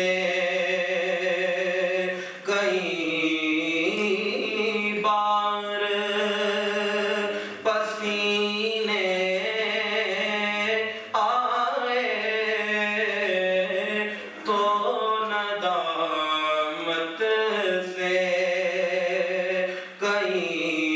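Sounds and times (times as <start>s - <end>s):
man singing devotional recitation: 0.0s - 20.9s.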